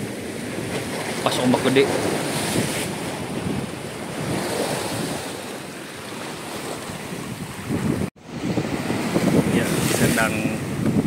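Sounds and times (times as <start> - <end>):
surf breaking on rocky shore: 0.0 - 11.0
wind buffeting microphone: 0.0 - 11.0.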